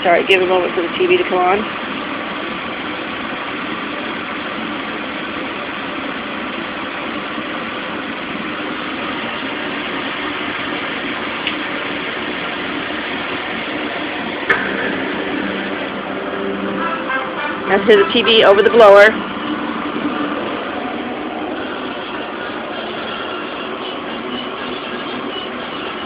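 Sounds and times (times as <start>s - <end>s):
air conditioning blower: 0.0s - 26.0s.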